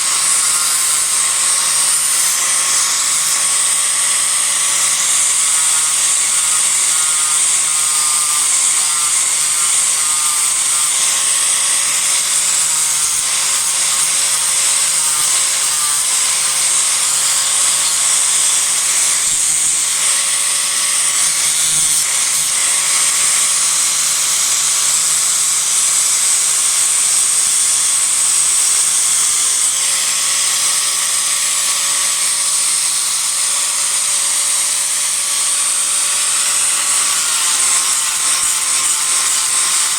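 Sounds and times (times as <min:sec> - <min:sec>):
disc grinder grinding wood: 0:00.0 - 0:39.9.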